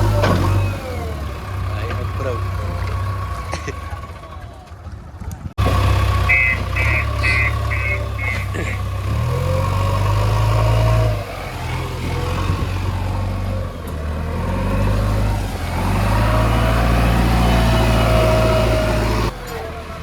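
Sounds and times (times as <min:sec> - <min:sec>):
heavy diesel engine under load: 0:00.0 - 0:20.0.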